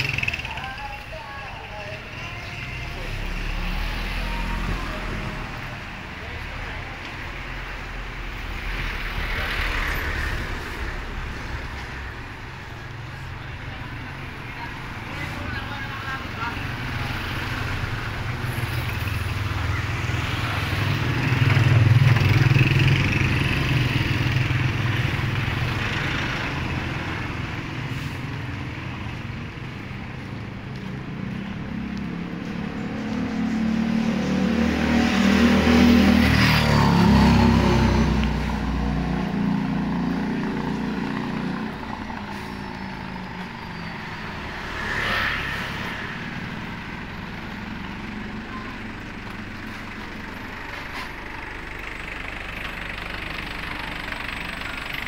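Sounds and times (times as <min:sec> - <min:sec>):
vehicles passing on wet road: 0:00.0 - 0:55.0.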